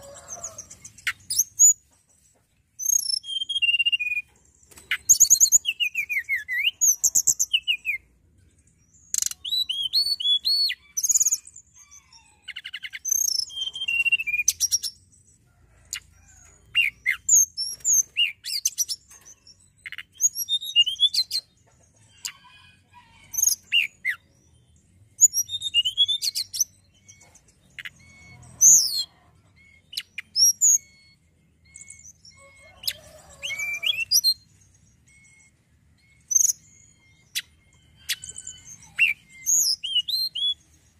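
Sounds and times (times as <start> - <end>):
songbird whistling and trilling: 2.8 - 8.1, 8.9 - 15.1, 16.7 - 21.5, 22.2 - 40.8.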